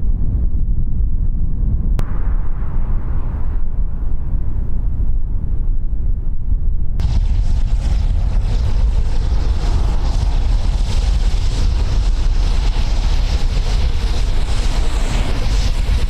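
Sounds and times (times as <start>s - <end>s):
steady rumbling: 0.0s - 16.0s
wind buffeting microphone: 0.0s - 16.0s.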